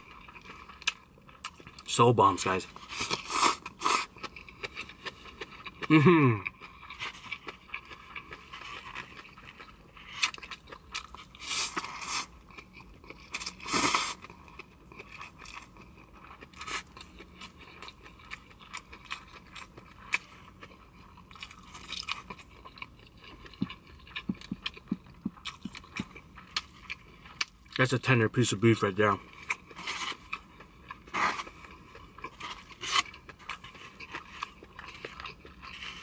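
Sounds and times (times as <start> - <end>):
chewing with wet mouth clicks: 0.0 - 2.0, 2.6 - 28.0, 29.2 - 36.0.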